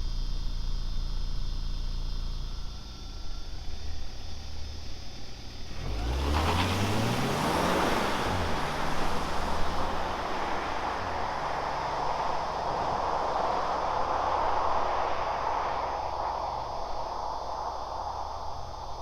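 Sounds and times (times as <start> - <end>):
car engine idling and accelerating: 0.0 - 19.0
road and wind noise: 3.4 - 19.0.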